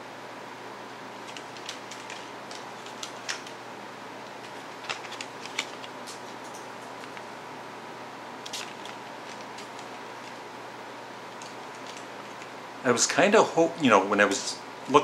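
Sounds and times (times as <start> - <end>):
air conditioner hiss: 0.0 - 15.0
fan running on low: 0.0 - 15.0.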